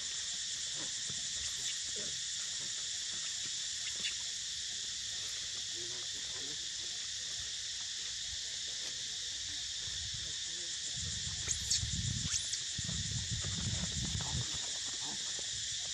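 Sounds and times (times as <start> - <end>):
insect chorus drone: 0.0 - 15.9.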